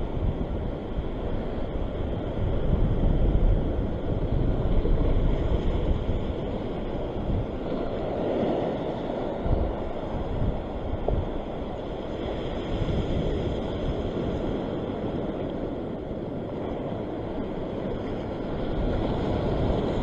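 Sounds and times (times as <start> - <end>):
ocean waves washing over rocks: 0.0 - 20.0
wind buffeting microphone: 0.0 - 20.0.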